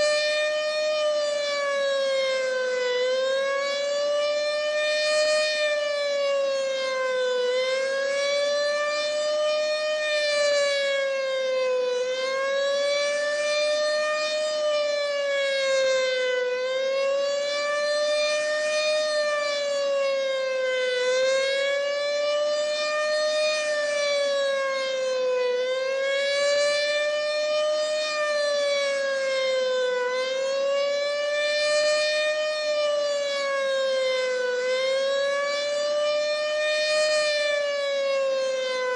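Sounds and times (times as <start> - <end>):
warning siren steady high tone: 0.0 - 38.9.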